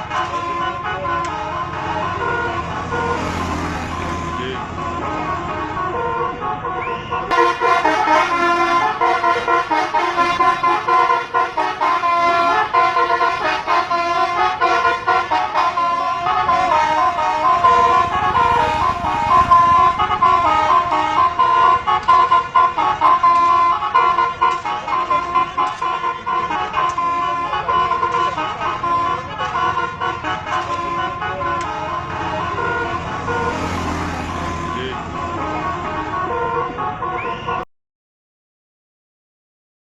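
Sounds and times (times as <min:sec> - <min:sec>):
tuned air horns playing melody: 0:00.0 - 0:37.6.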